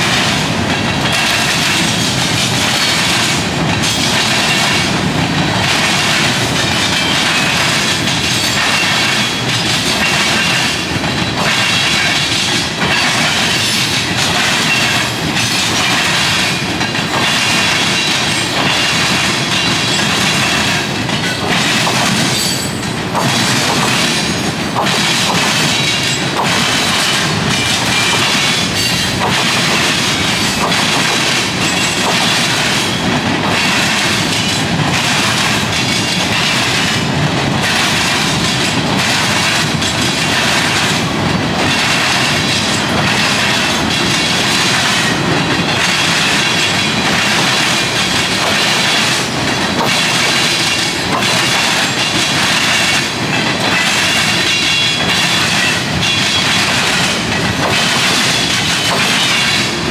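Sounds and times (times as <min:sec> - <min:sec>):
freight train wheels clacking over crossing: 0:00.0 - 0:59.9.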